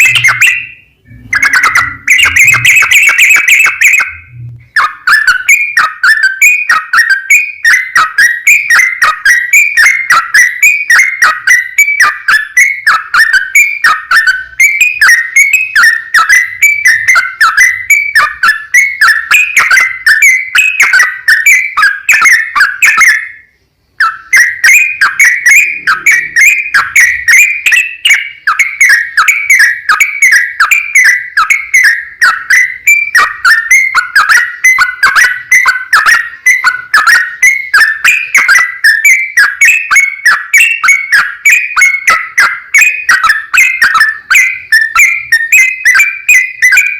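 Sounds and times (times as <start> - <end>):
bird singing bubbly whistled notes: 0.0 - 46.9.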